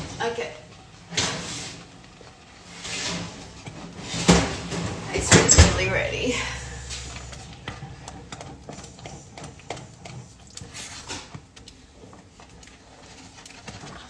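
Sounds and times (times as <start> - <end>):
utensil scraping a saucepan: 1.1 - 14.0.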